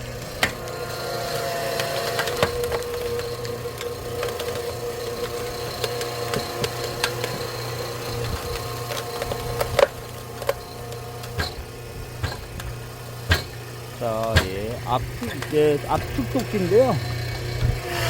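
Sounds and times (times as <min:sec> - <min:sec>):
log splitter motor humming: 0:00.0 - 0:18.0
wood cracking and creaking: 0:01.7 - 0:16.7.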